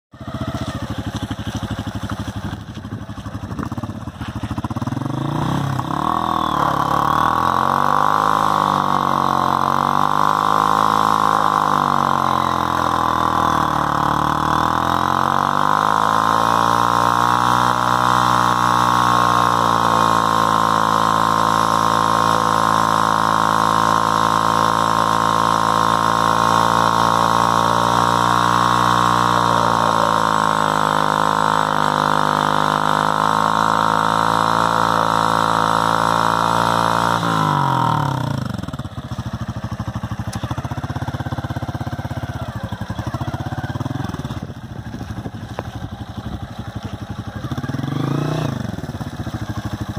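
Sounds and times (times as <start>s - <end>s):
motorcycle engine revving: 0.1s - 49.9s.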